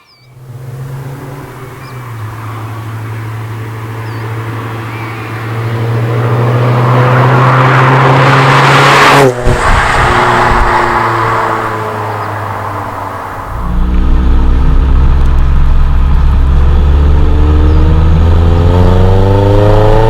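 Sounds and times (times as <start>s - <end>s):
car engine pulling under load: 0.3s - 20.0s.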